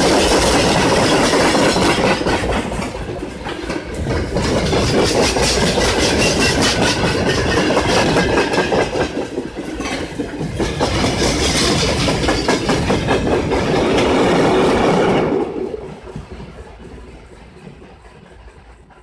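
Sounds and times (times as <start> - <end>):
freight train rolling past: 0.0 - 19.0
wheels clicking over rail joints: 0.0 - 19.0.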